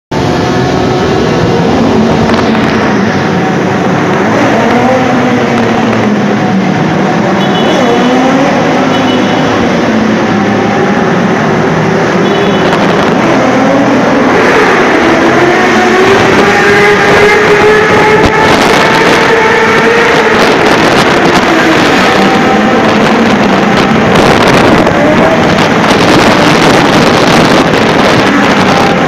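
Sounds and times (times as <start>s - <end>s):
motorcycle engines revving in tunnel: 0.2s - 29.0s.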